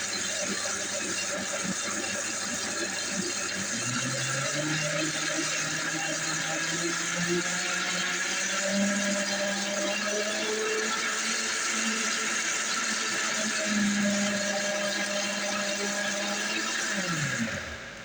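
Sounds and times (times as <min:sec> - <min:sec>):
blender motor running: 0:00.0 - 0:18.0.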